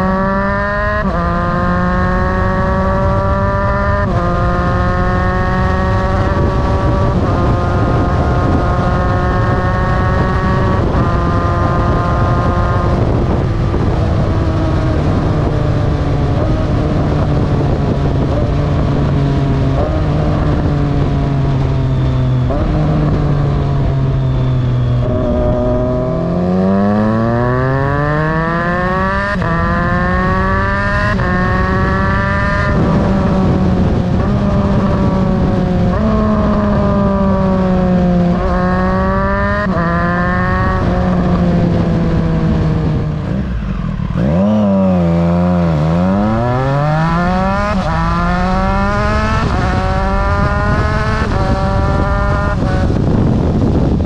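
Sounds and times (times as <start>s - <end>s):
motorcycle engine revving: 0.0s - 54.0s
wind and road noise: 0.0s - 54.0s.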